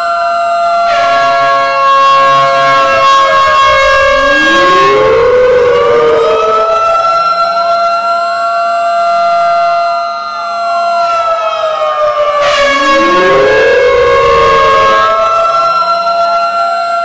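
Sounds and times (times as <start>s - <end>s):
steady siren tones: 0.0s - 17.0s
wailing sirens: 0.0s - 17.0s
warning siren winding up: 0.6s - 10.4s, 11.0s - 17.0s.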